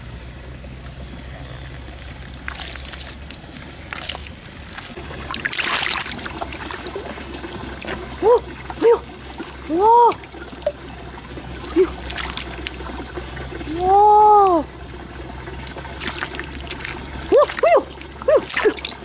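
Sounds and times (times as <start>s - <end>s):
stream trickling and splashing: 0.0s - 19.0s.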